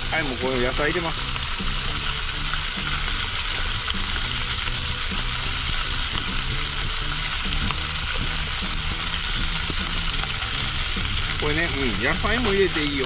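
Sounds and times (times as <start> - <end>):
fat sizzling in frying pan: 0.0 - 13.0.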